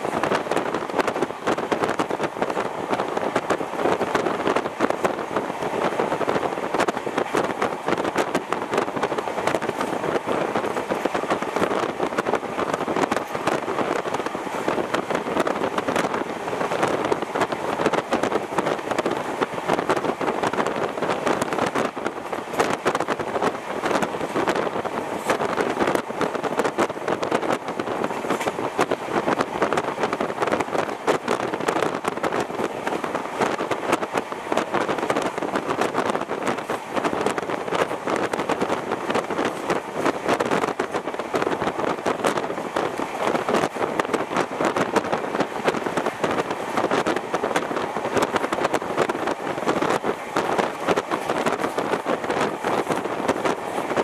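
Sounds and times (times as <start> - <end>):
train wheel rumble: 0.0 - 54.0
wind noise on microphone: 0.0 - 54.0.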